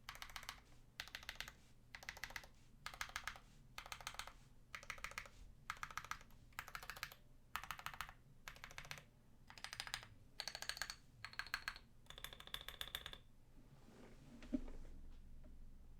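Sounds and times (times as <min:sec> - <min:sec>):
mechanical keyboard typing: 0:00.1 - 0:13.2.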